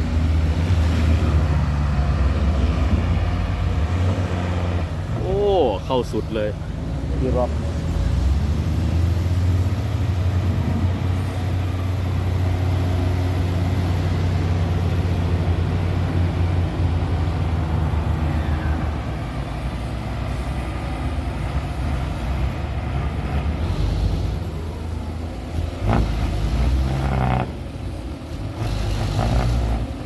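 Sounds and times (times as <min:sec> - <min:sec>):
diesel truck engine droning: 0:00.0 - 0:30.0.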